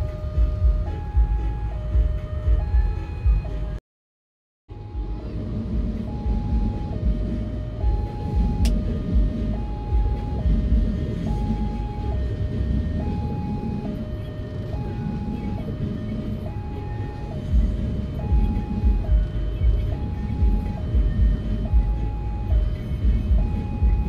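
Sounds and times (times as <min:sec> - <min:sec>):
two-tone level crossing alarm: 0:00.0 - 0:03.8, 0:04.7 - 0:24.0.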